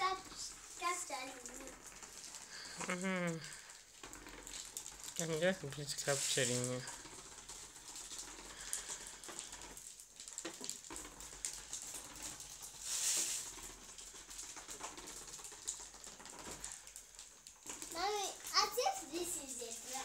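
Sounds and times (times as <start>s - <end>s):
toy tricycle rattling over tiles: 0.0s - 20.0s.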